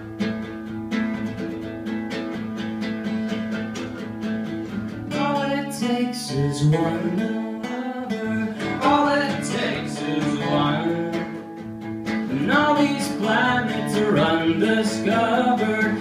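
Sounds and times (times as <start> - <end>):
acoustic guitars strumming: 0.0 - 16.0.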